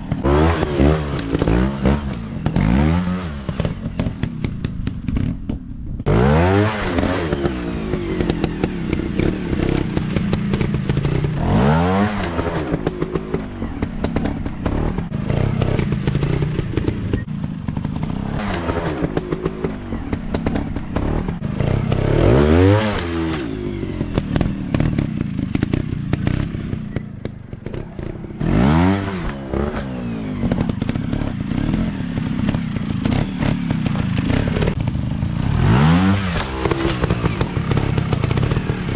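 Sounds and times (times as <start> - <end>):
dirt bike engine revving: 0.0 - 5.4, 6.0 - 38.9
clattering over rough ground: 6.8 - 38.9.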